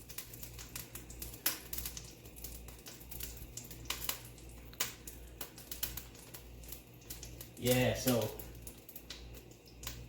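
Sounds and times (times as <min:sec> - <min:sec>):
low steady hum: 0:00.0 - 0:10.0
meat crackling in hot pot: 0:00.0 - 0:10.0.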